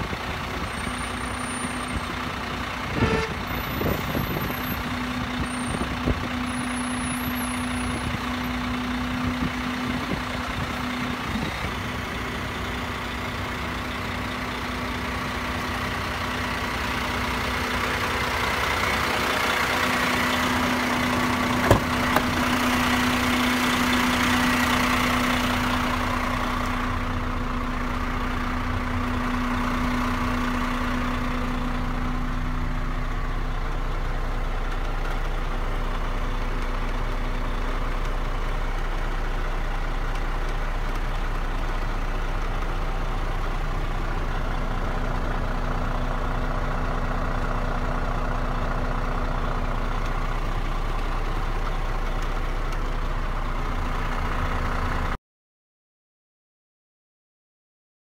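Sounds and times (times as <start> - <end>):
truck diesel engine idling: 0.0 - 55.2.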